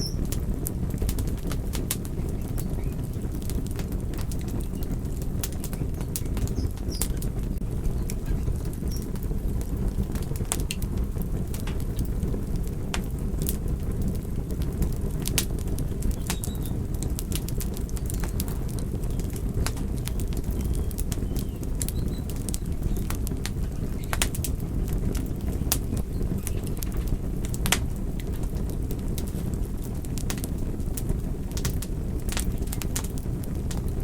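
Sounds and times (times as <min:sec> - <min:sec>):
fire crackling: 0:00.0 - 0:34.0
fire pops and snaps: 0:00.0 - 0:34.0.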